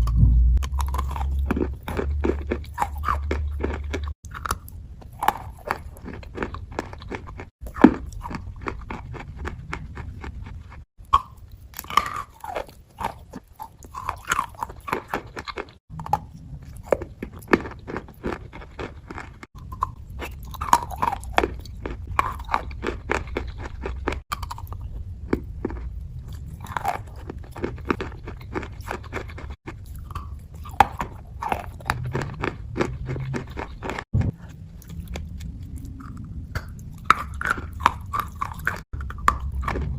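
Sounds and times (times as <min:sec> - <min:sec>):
wet crunching and chewing: 0:00.0 - 0:39.9.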